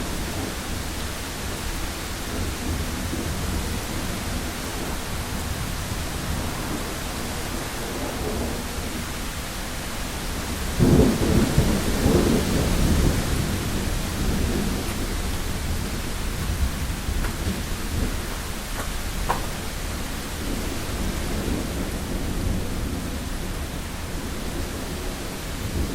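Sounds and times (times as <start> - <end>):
heavy rain on a window: 0.0 - 25.9
thunder rumbling: 0.0 - 25.9.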